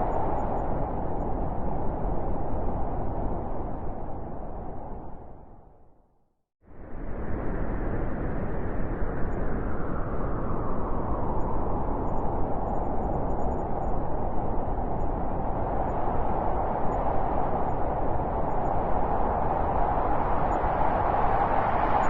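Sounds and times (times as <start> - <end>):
blizzard wind rushing: 0.0 - 5.8, 6.7 - 22.0
hollow howling wind: 0.0 - 22.0.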